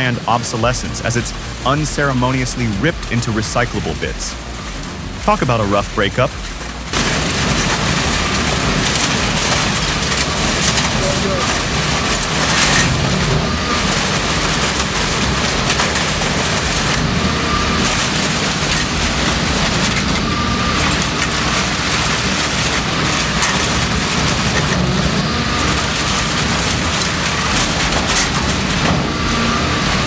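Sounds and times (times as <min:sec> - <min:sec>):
low continuous drone: 0:00.0 - 0:30.0.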